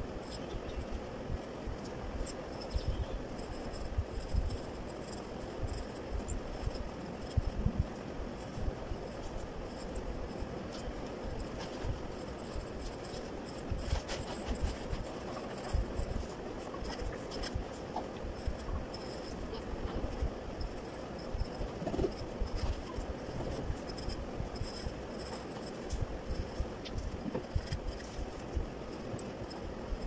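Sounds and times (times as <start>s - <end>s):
pencil scratching on paper: 0.0s - 30.0s.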